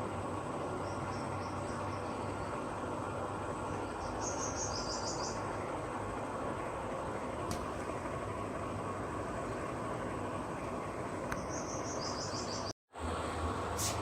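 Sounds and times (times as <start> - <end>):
air conditioner rushing hum: 0.0 - 14.0.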